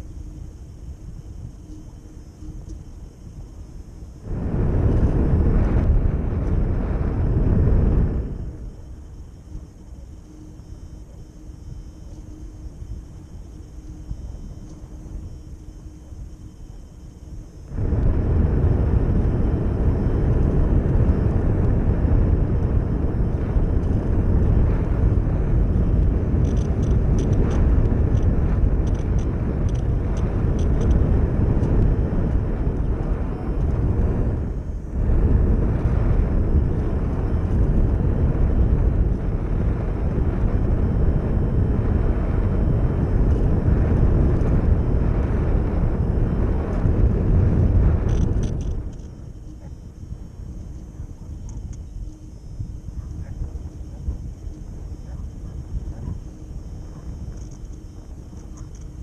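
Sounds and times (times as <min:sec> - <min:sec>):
electric motor and propeller: 0:00.0 - 0:59.0
wind rushing over microphone: 0:00.0 - 0:59.0.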